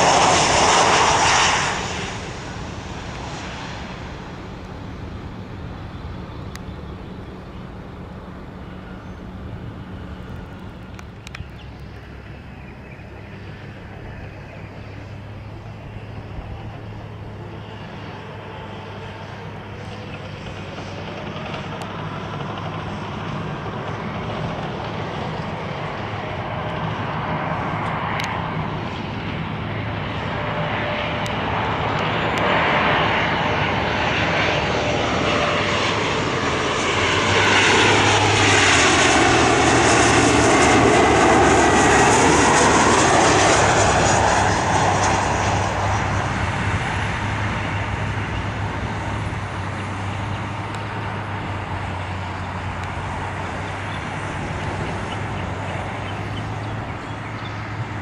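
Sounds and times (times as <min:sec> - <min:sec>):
jet airliner engines passing: 0:00.0 - 0:58.0.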